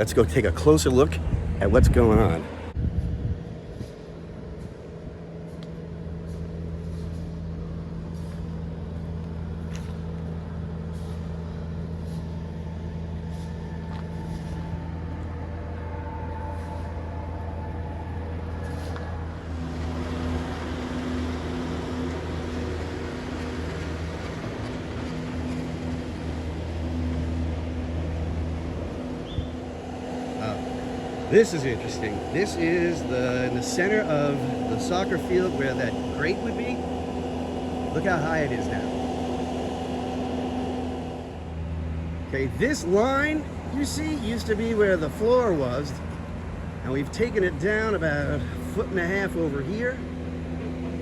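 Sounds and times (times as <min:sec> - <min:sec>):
construction machinery engines humming: 0:00.0 - 0:51.0.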